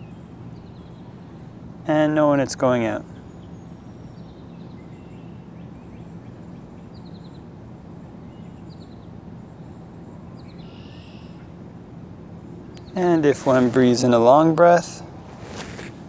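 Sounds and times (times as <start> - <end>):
bird chirps and trills: 0.0 - 14.5
low background hum: 0.0 - 16.0.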